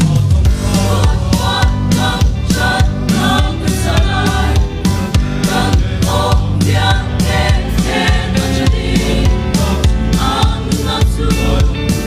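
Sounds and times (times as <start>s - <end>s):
accompaniment with strong bass beat: 0.0s - 12.0s
mixed choir singing gospel: 0.0s - 12.0s.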